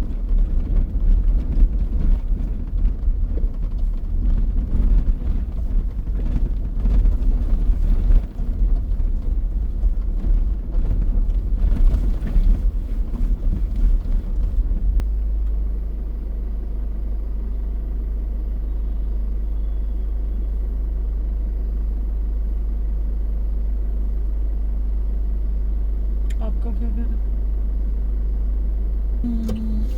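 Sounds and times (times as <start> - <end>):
steady low hum: 0.0 - 22.3, 24.8 - 29.9
vehicle driving off-road: 0.0 - 29.9.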